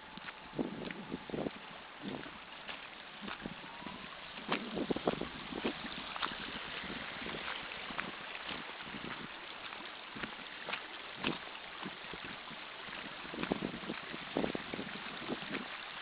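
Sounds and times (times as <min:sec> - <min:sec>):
rainwater runoff rushing: 0:00.0 - 0:16.0.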